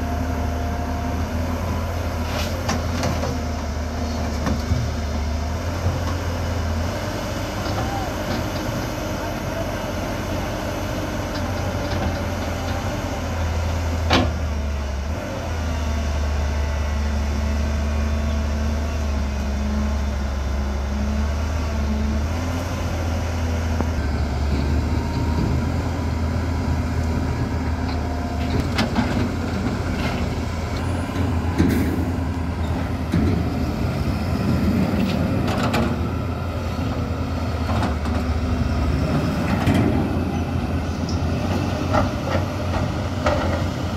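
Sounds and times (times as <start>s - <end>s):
excavator diesel engine droning: 0.0s - 43.9s.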